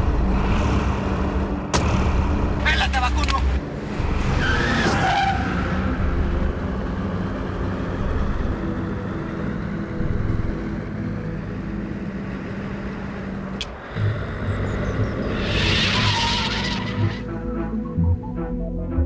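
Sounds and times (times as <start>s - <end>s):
car engine humming: 0.0s - 18.4s.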